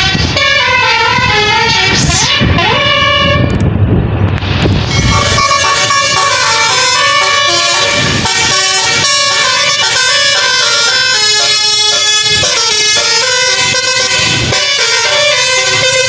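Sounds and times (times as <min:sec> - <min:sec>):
bus air horn playing a tune: 0:00.0 - 0:03.6, 0:04.9 - 0:16.0.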